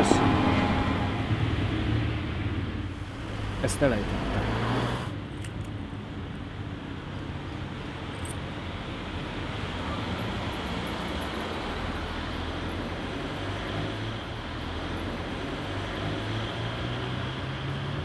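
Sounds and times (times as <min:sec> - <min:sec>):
rumble of passing cars: 0:00.0 - 0:18.0.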